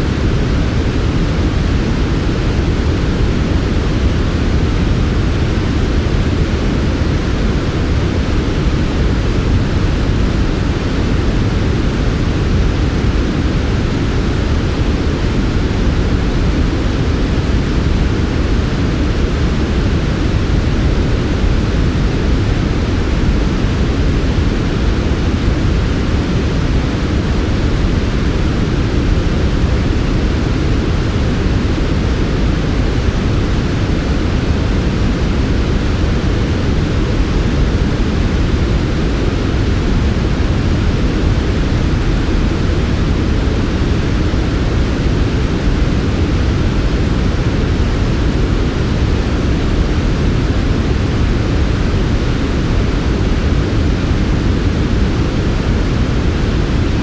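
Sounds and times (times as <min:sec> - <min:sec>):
deep white noise hiss: 0:00.0 - 0:57.0.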